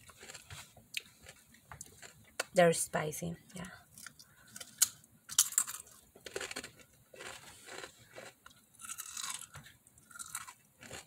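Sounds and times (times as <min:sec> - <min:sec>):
person crunching chips: 0:00.0 - 0:02.2, 0:03.9 - 0:11.0.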